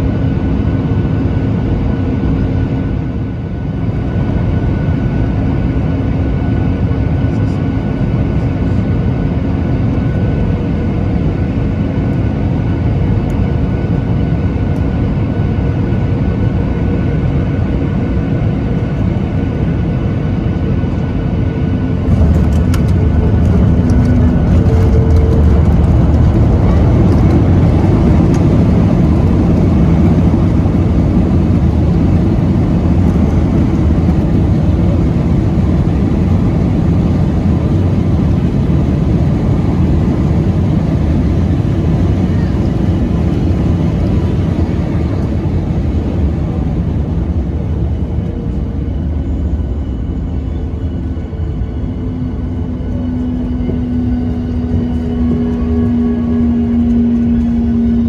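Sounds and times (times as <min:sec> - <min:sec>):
aircraft cabin engine drone: 0:00.0 - 0:58.0.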